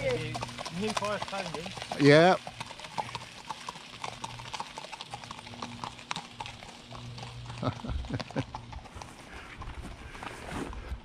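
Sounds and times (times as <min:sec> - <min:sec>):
horse hooves clip-clopping on gravel: 0:00.0 - 0:11.0.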